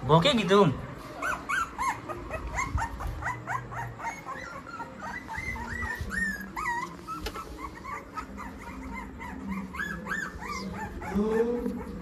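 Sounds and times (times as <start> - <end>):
puppies whimpering: 0.4 - 12.0.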